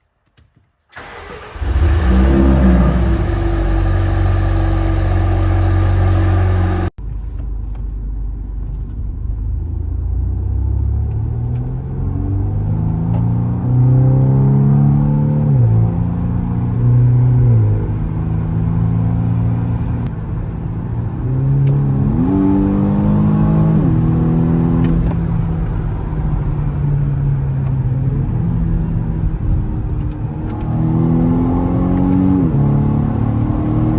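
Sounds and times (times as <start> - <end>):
car engine idling and revving: 1.0 - 33.9.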